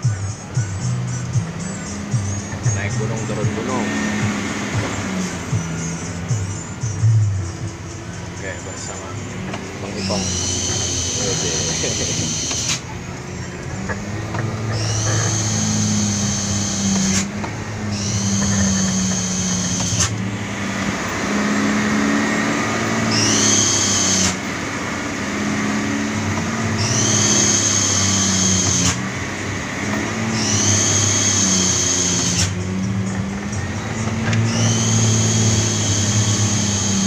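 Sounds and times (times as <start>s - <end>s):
diesel engine droning: 0.0s - 37.0s
high rising whine: 0.0s - 37.0s.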